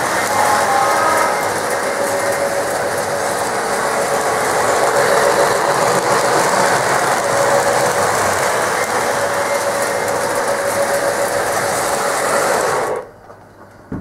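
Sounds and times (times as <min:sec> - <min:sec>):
model train rattling on rails: 0:00.0 - 0:13.8.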